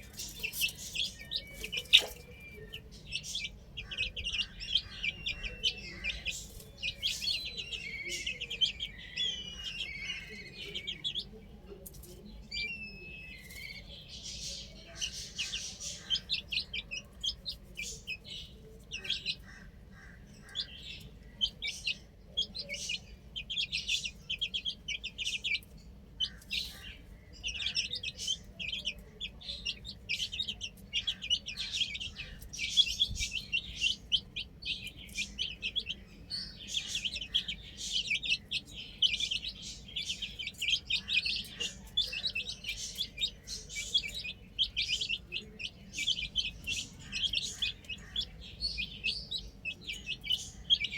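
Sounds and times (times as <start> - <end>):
baby chicks peeping: 0.0 - 50.9.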